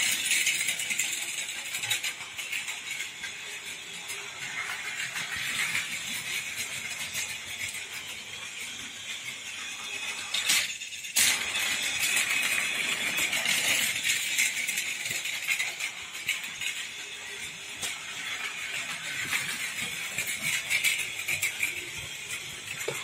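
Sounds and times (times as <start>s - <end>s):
toy train motors whirring: 0.0s - 23.0s
wheels rattling over track: 0.0s - 23.0s.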